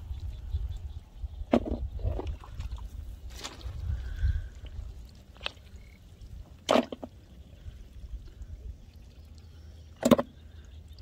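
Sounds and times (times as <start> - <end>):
water dripping and sloshing: 1.6 - 11.0.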